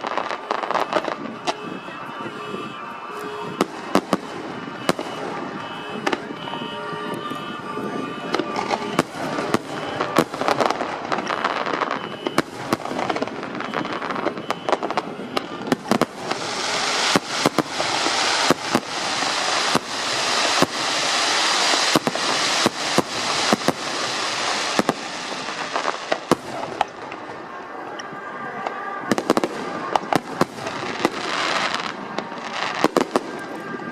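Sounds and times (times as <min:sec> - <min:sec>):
hissing crackle of fireworks: 0:00.0 - 0:33.9.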